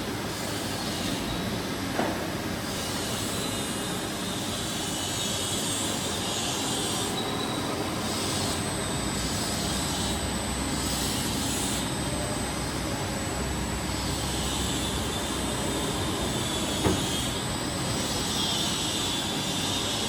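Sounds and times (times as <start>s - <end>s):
faint high machine whines: 0.0s - 20.0s
milling machine whirring: 0.0s - 20.0s.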